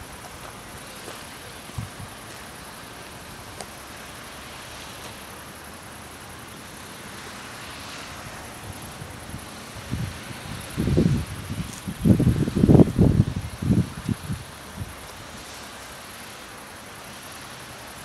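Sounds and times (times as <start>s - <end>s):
wind through tree leaves: 0.0s - 18.0s.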